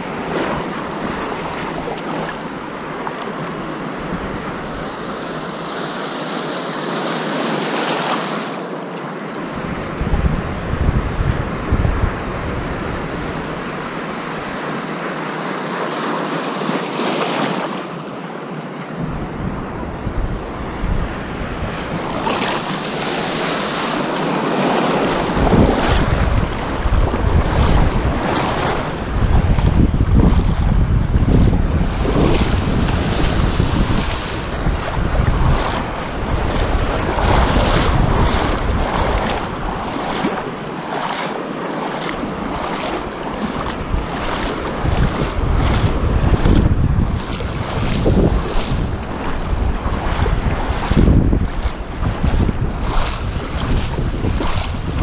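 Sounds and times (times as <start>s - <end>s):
wind rumbling on microphone: 0.0s - 5.2s, 9.4s - 14.6s, 18.9s - 55.0s
small waves washing in: 0.0s - 55.0s.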